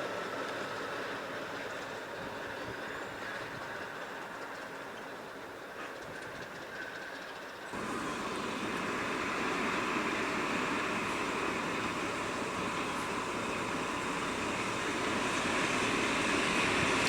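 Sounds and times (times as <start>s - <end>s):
train running on track: 0.0s - 17.0s.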